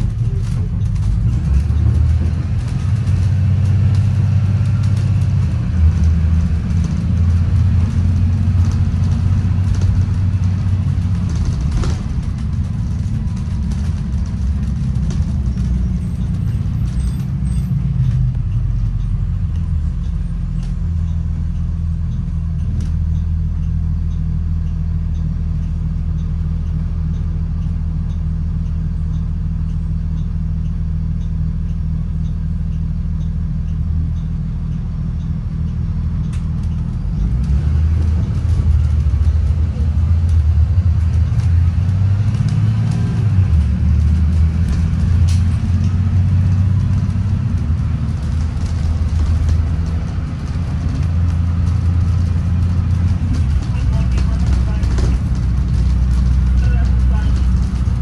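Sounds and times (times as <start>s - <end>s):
bus engine drone: 0.0s - 58.0s
road rumble: 0.0s - 58.0s.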